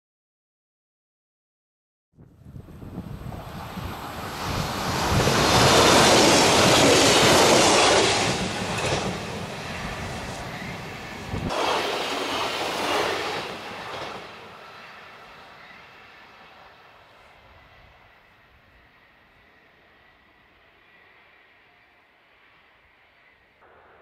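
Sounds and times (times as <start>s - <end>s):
diesel railcar passing: 2.6s - 24.0s.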